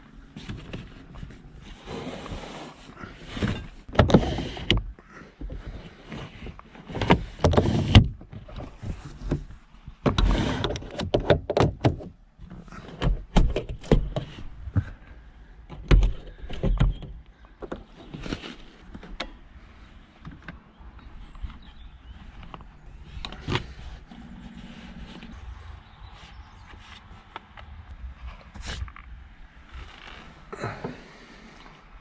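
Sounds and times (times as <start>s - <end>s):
objects rustling inside a car: 0.0s - 32.0s.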